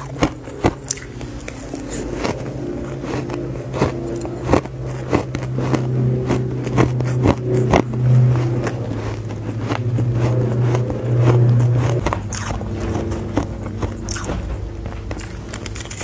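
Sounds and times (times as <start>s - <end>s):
crunching ice while chewing: 0.0s - 16.0s
steady low hum: 0.0s - 16.0s.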